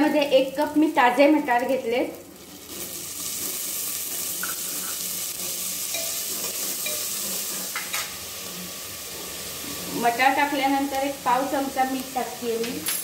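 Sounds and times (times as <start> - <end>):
peas sizzling in hot oil: 0.0 - 13.0.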